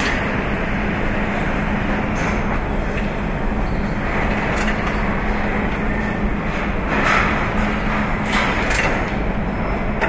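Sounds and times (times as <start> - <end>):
machinery din with low hum: 0.0 - 10.0.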